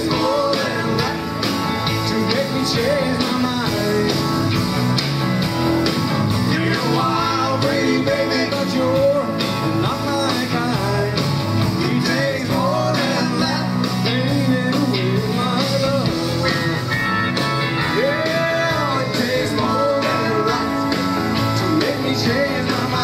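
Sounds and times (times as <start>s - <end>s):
lead vocal singing: 0.0s - 4.6s, 6.4s - 17.1s, 17.8s - 23.0s
bass guitar: 0.0s - 23.0s
drum kit: 0.0s - 23.0s
electric guitars: 0.0s - 23.0s.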